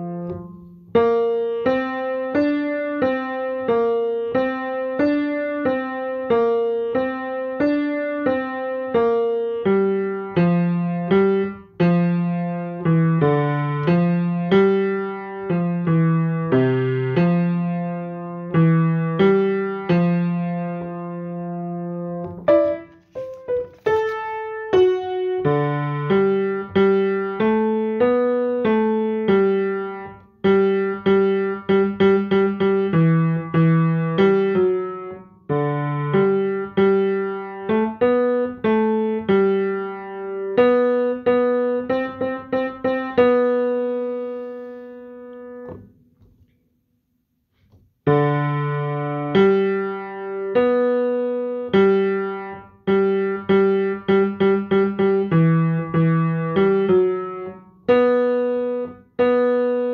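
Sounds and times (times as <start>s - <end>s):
slow piano chords and notes: 0.0s - 46.7s, 47.5s - 59.9s.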